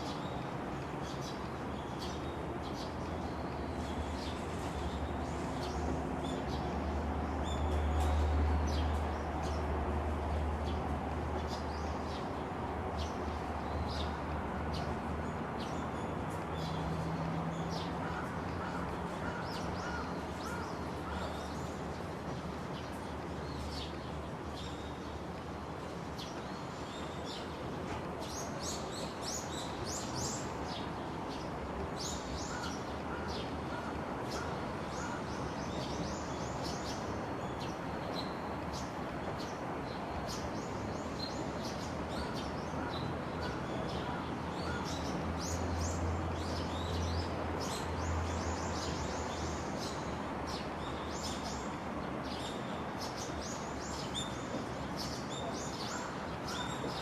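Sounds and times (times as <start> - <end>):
outdoor background hiss: 0.0 - 57.0
songbirds chirping: 0.0 - 57.0.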